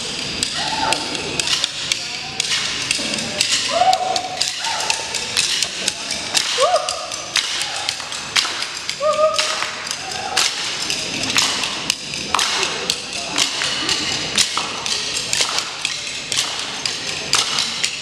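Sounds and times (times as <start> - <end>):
drums and sticks hits: 0.0 - 18.0.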